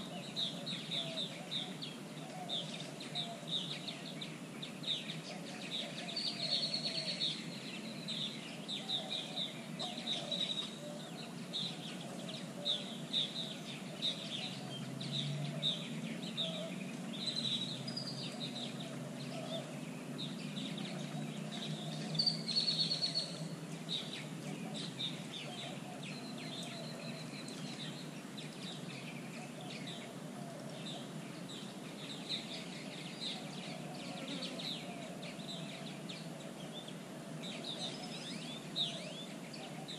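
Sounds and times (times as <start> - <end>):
birds chirping: 0.0 - 39.9
low background noise: 0.0 - 39.9.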